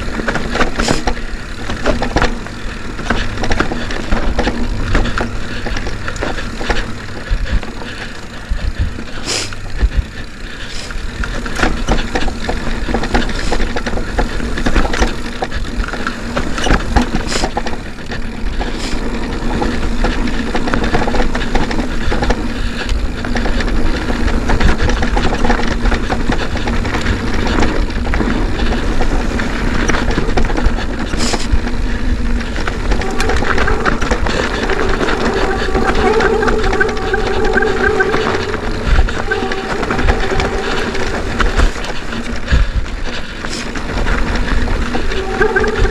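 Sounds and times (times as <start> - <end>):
bike rattling over ground: 0.0 - 45.9
wind on microphone: 0.0 - 45.9.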